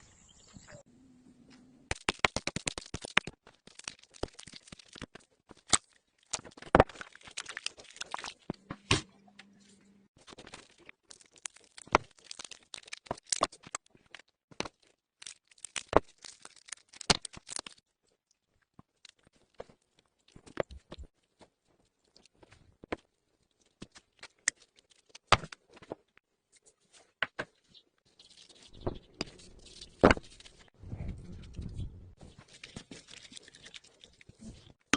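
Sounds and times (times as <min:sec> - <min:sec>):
crinkling and tearing: 0:01.9 - 0:08.5, 0:10.2 - 0:22.7, 0:23.3 - 0:27.2, 0:28.1 - 0:34.8.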